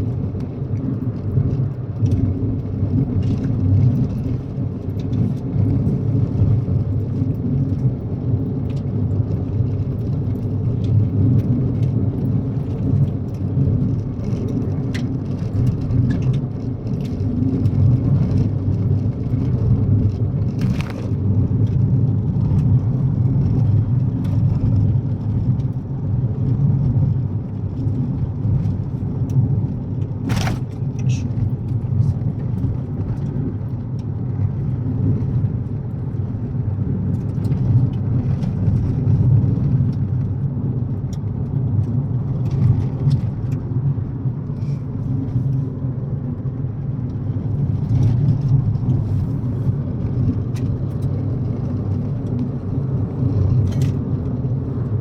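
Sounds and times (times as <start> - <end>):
car driving on gravel: 0.0 - 55.0.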